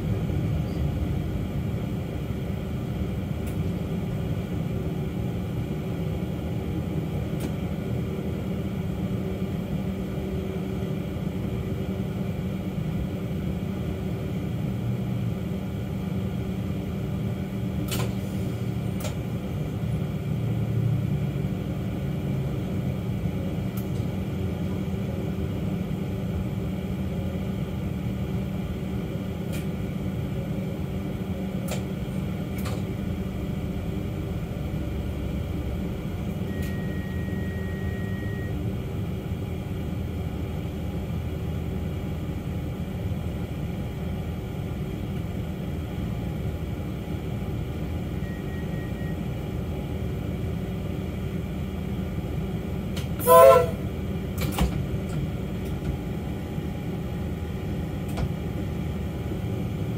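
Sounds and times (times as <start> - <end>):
electric train hum and rumble: 0.0 - 59.9.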